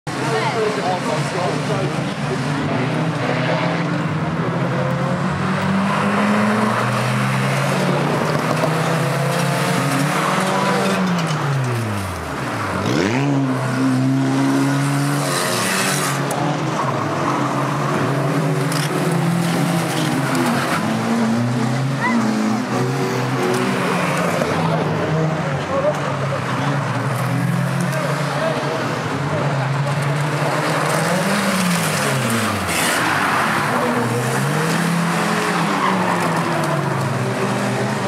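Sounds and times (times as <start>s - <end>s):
racing car engines running hard: 0.1s - 38.0s.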